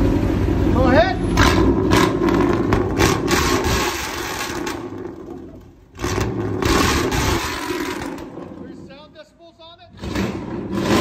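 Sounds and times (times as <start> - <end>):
truck engine revving: 0.0 - 9.2, 9.9 - 11.0.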